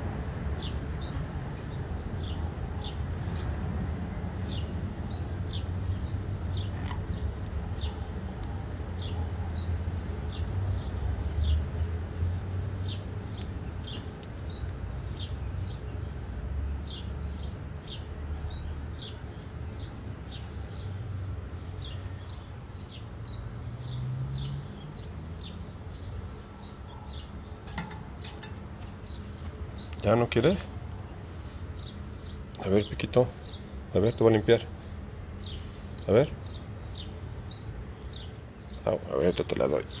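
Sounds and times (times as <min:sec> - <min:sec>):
bird chirping: 0:00.6 - 0:40.0.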